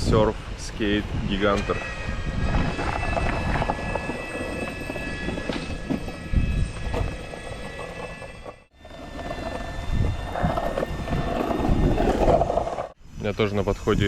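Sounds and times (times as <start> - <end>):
ride-on machine whining and rumbling: 0.0 - 13.0.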